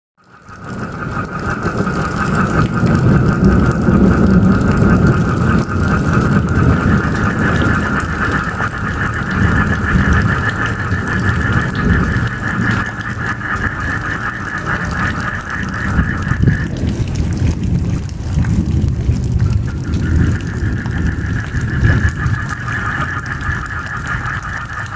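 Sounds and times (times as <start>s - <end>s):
frog chorus trilling: 0.2s - 24.9s
rain hiss: 0.3s - 24.9s
rolling thunder: 0.6s - 24.9s.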